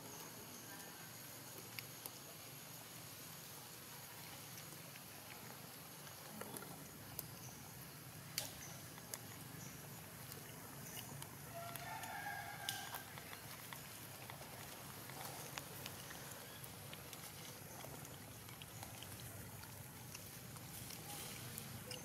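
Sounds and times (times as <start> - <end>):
small clicks and rustles in grass: 0.0 - 22.0.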